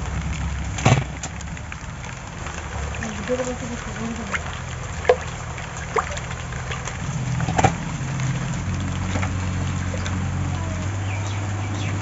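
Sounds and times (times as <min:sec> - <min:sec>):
water sloshing in metal basin: 0:00.7 - 0:12.0.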